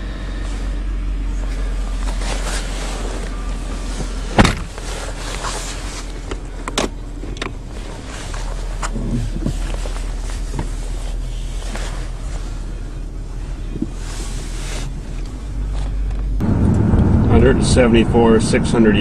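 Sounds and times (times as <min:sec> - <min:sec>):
car engine at low revs: 0:00.0 - 0:19.0.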